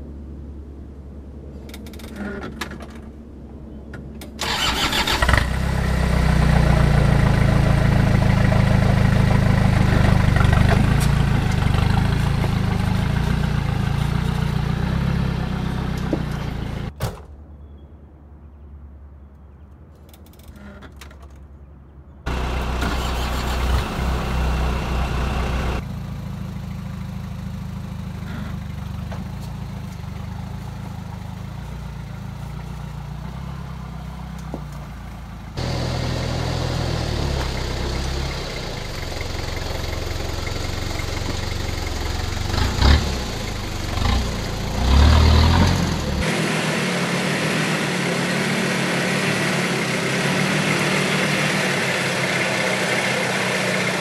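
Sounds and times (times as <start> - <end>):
diesel engine running under load: 4.4 - 16.9, 22.3 - 54.0.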